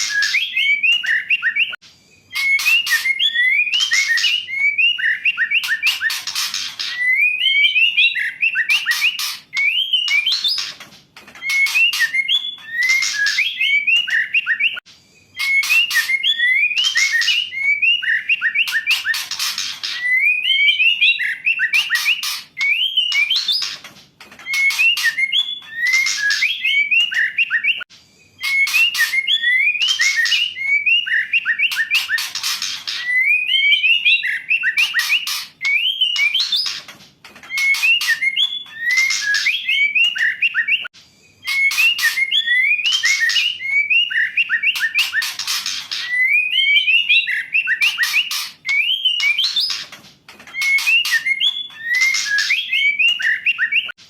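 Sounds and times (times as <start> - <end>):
bird whistling and rasping: 0.0 - 54.0.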